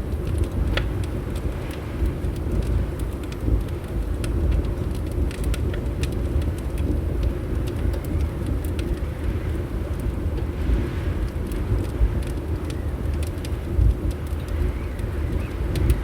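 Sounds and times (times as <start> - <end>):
low rumble of wind: 0.0 - 16.0
wood fire crackling: 0.0 - 16.0.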